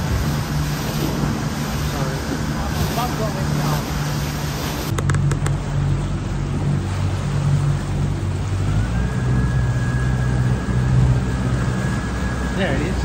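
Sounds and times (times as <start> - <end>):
outboard motor running: 0.0 - 13.0
rush of wake and wind: 0.0 - 13.0.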